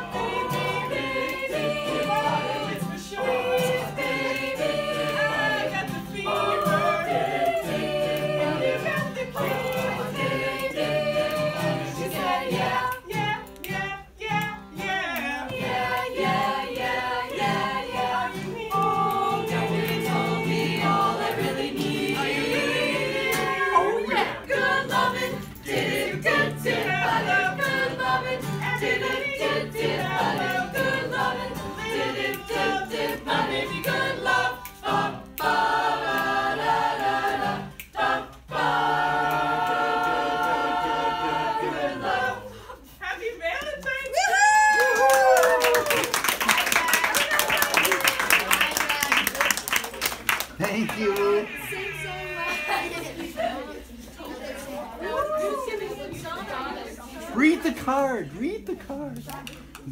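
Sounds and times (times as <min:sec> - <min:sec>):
group singing a cappella: 0:00.0 - 0:43.0, 0:51.1 - 0:57.8.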